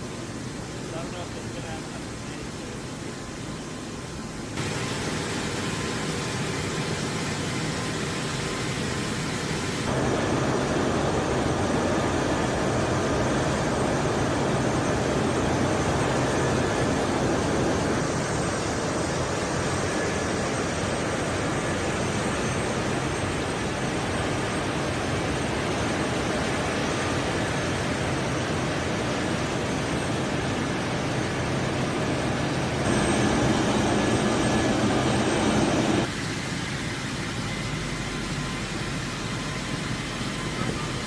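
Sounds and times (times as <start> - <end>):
jet engines running at high power: 0.0 - 41.0.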